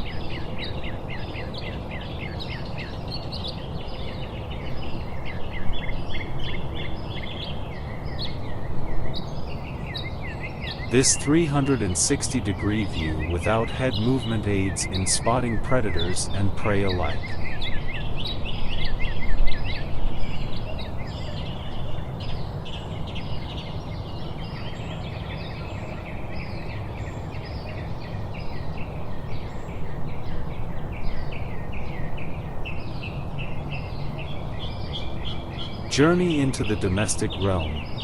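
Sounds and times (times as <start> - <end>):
small birds chirping: 0.0 - 38.0
steady low background noise: 0.0 - 38.0.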